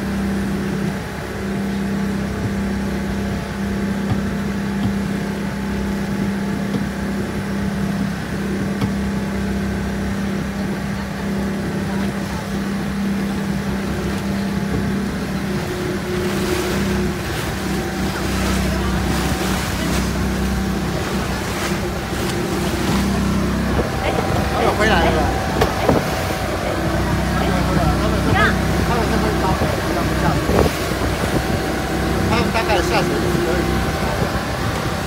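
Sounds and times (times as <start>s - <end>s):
motorboat engine droning: 0.0s - 35.0s
water rushing: 0.0s - 35.0s
wind: 0.0s - 35.0s.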